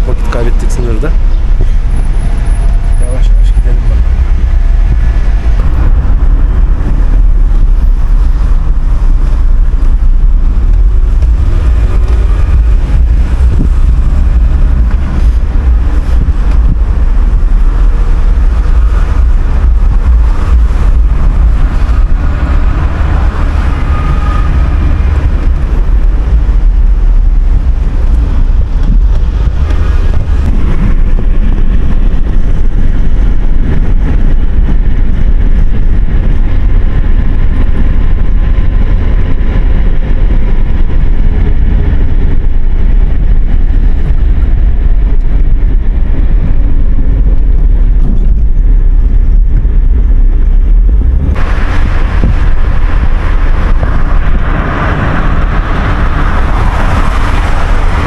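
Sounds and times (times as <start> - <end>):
car road and engine rumble: 0.0 - 58.0
wind buffeting microphone: 0.0 - 58.0.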